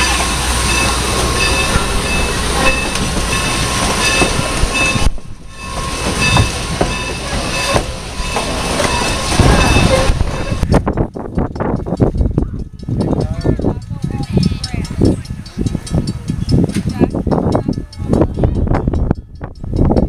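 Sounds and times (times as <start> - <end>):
train running on track: 0.0 - 20.0
wind rumble on microphone: 0.7 - 20.0.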